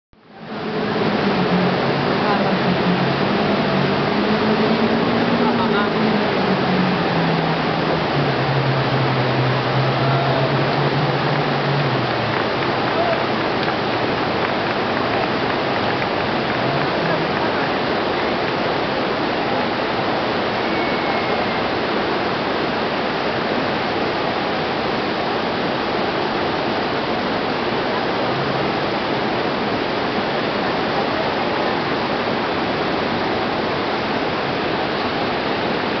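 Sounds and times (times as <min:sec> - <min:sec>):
waterfall roaring: 0:00.2 - 0:36.0.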